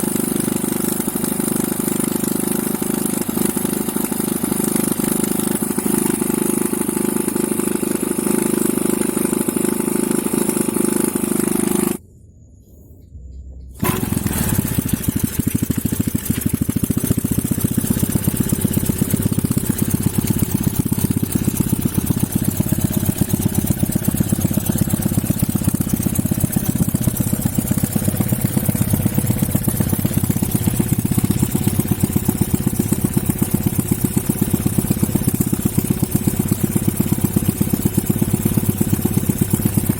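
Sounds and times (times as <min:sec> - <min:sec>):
small engine running: 0:00.0 - 0:12.0, 0:13.8 - 0:39.9.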